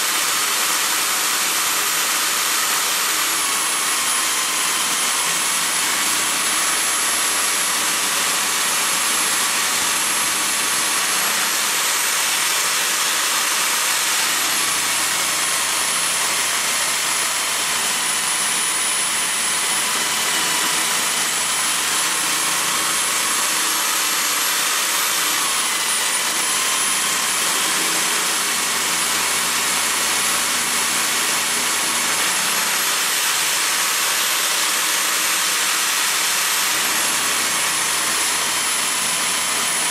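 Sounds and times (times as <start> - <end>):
drill motor whining: 0.0 - 39.9.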